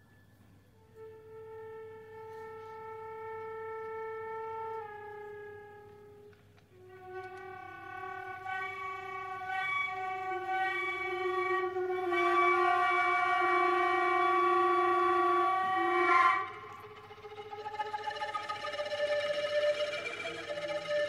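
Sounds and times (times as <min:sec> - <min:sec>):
flutes holding low note: 0:00.7 - 0:21.0.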